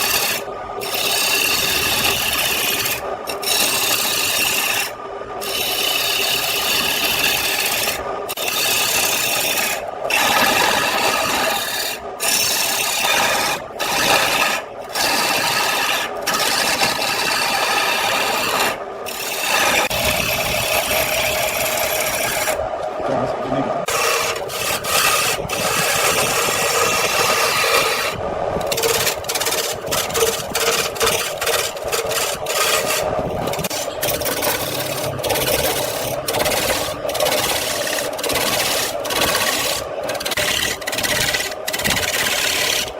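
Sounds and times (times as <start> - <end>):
lathe tool scraping wood: 0.0 - 22.7, 23.8 - 42.9.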